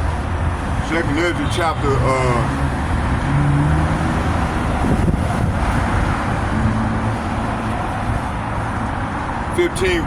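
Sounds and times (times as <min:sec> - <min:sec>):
road vehicle noise: 0:00.0 - 0:10.0.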